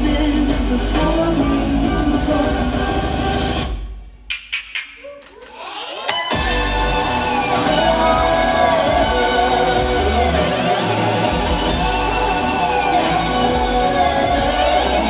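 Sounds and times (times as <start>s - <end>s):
instrumental music with heavy bass: 0.0s - 3.8s, 6.1s - 15.0s.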